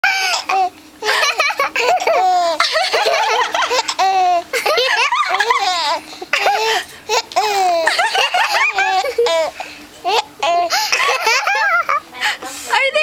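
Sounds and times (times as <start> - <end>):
baby laughing: 0.1 - 12.0.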